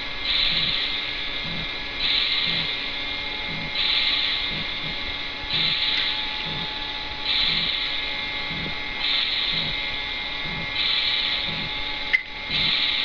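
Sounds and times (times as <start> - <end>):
electronic sizzling hiss: 0.0 - 13.0.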